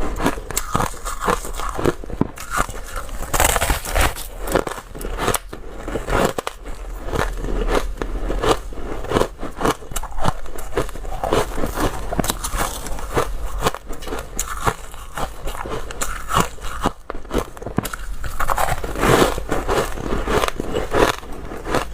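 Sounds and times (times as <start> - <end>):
person crunching ice: 0.0 - 21.9.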